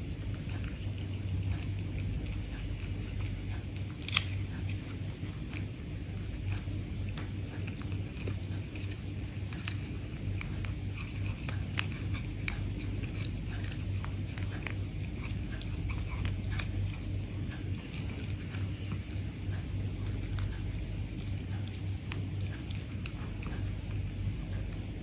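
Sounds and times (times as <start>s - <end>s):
cat crunching treat: 0.0s - 25.0s
steady low hum: 0.0s - 25.0s.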